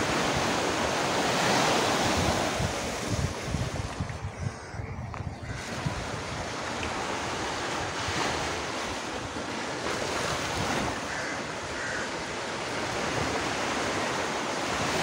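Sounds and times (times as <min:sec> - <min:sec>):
waves breaking on shore: 0:00.0 - 0:04.3, 0:05.0 - 0:15.0
wind buffeting microphone: 0:00.0 - 0:15.0.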